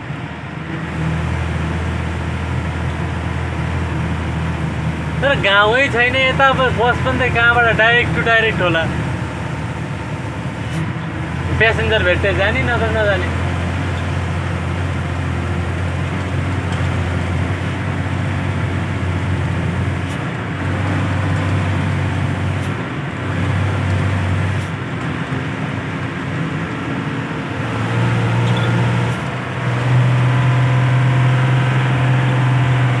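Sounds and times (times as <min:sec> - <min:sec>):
road and wind noise: 0:00.0 - 0:33.0
vehicle engine running: 0:00.0 - 0:33.0.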